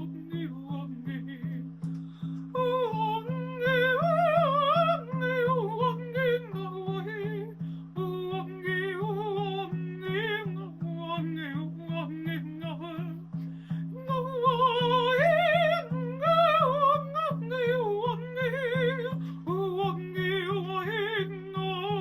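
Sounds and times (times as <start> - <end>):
woman singing wordlessly: 0.0 - 22.0.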